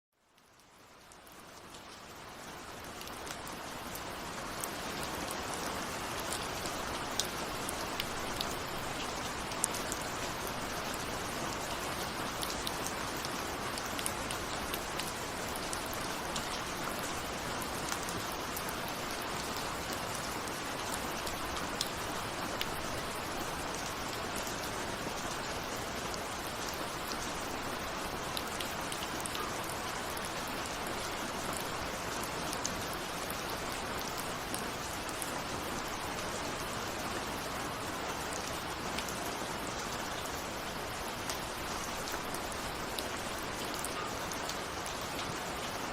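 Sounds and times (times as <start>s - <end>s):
steady rain: 0.1s - 45.9s.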